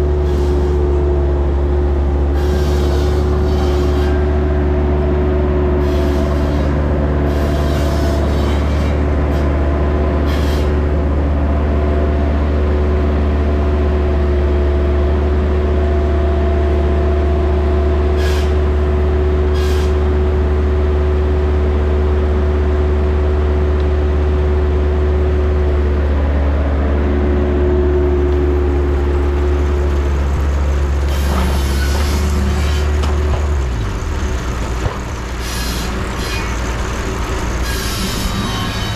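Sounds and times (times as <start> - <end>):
sawmill low rumble: 0.0 - 38.9.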